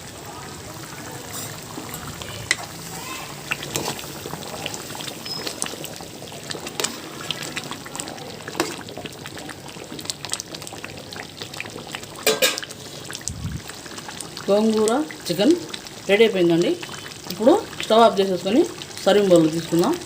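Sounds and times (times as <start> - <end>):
gravy bubbling and spluttering: 0.0 - 20.0.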